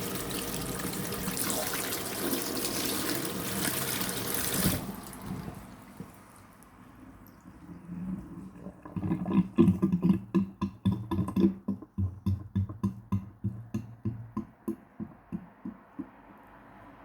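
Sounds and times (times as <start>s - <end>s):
sink drain gurgling: 0.0s - 5.8s, 7.4s - 15.8s.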